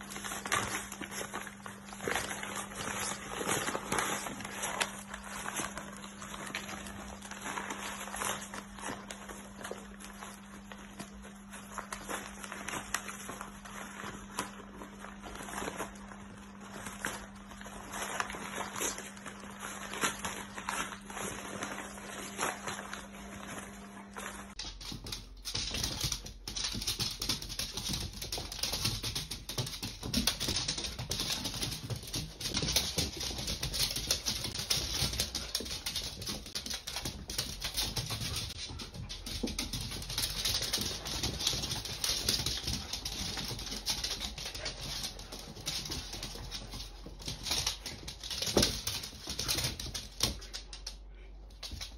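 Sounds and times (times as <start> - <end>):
paper bag crinkling and ripping: 0.0 - 50.1.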